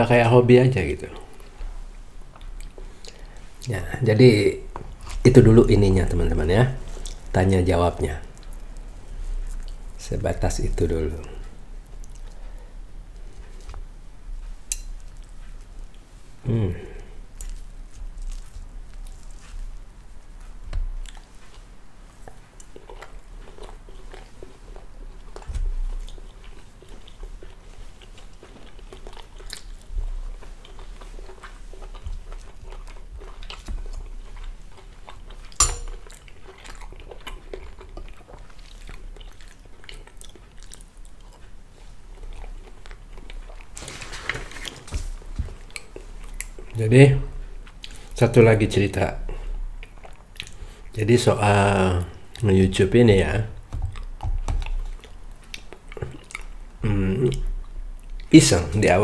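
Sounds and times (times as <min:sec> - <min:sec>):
person chewing: 0:01.3 - 0:03.7, 0:04.7 - 0:05.2, 0:06.8 - 0:07.4, 0:08.2 - 0:10.0, 0:11.2 - 0:48.2, 0:49.2 - 0:51.0, 0:53.5 - 0:58.3.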